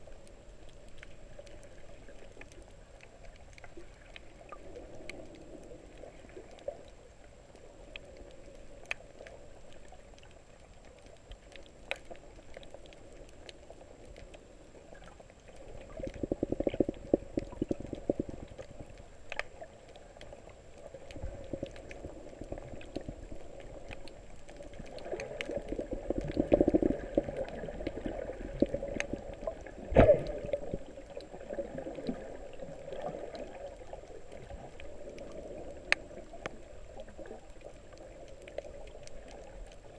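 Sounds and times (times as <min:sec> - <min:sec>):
faint clicks: 0:00.0 - 0:39.9
muffled underwater water rush: 0:00.0 - 0:39.9.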